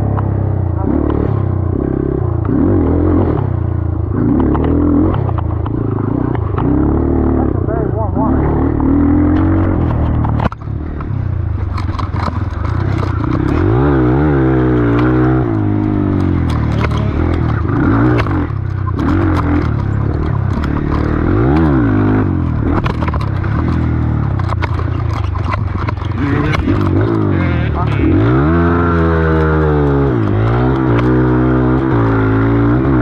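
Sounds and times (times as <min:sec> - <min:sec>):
dirt bike engine revving: 0:00.0 - 0:33.0
clicks and clatter: 0:03.3 - 0:06.8, 0:08.7 - 0:33.0.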